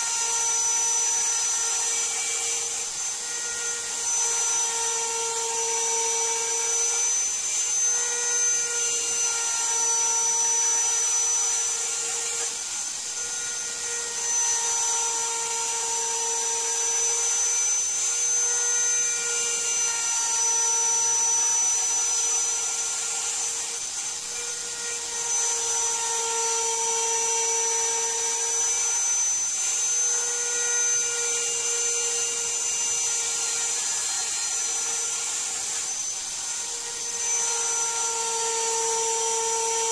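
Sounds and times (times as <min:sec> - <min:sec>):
router spindle high whine: 0:00.0 - 0:39.9.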